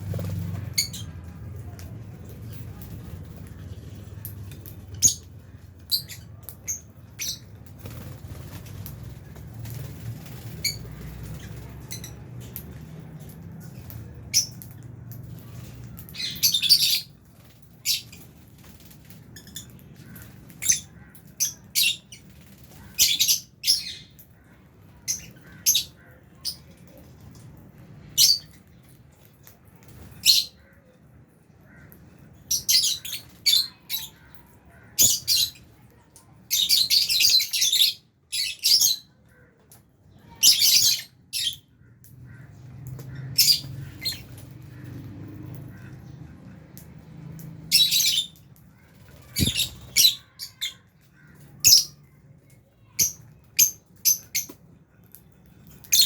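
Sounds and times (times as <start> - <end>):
birds chirping and squawking: 0.0 - 56.0.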